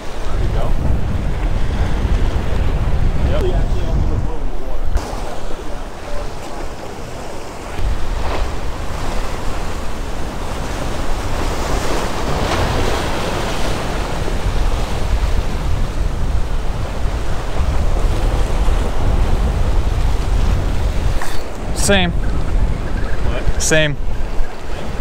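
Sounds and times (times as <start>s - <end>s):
surf breaking against rocks: 0.0s - 25.0s
wind buffeting microphone: 0.0s - 25.0s.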